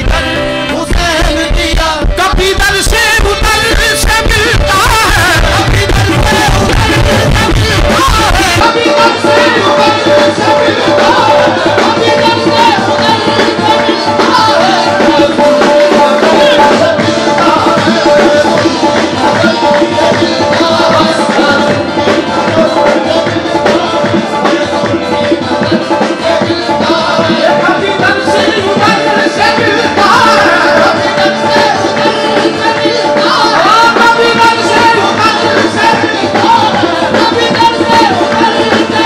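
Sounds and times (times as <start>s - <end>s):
held harmonium note: 0.0s - 39.0s
tabla drumming: 0.0s - 39.0s.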